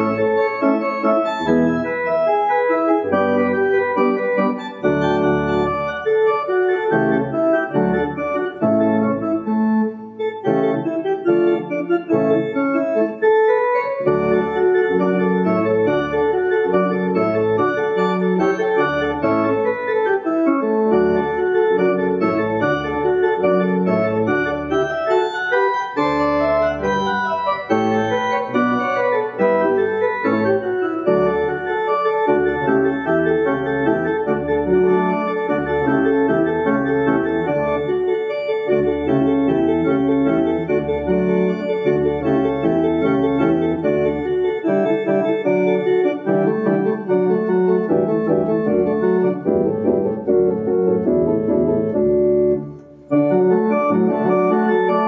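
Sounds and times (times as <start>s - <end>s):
organ playing held notes: 0.0s - 55.0s.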